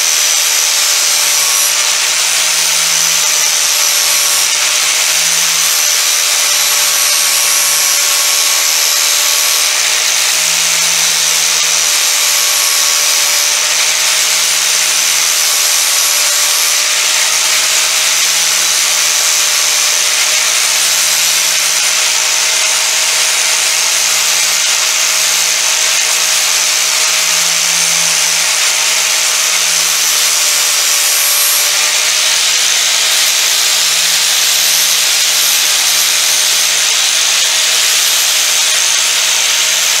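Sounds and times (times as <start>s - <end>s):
angle grinder motor whine: 0.0s - 40.0s
sanding hiss: 0.0s - 40.0s.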